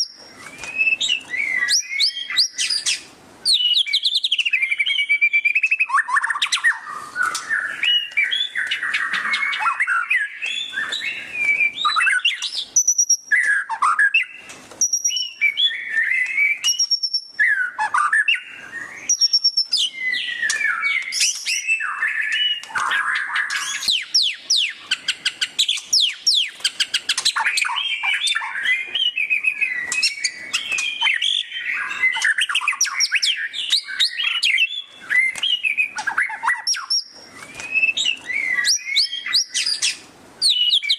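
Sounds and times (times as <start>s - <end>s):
songbird singing trills and whistles: 0.0s - 40.9s.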